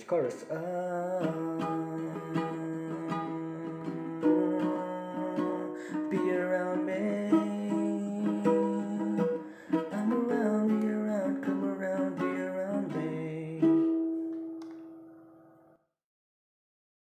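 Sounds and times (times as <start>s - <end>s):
ukulele strumming: 0.1s - 15.6s.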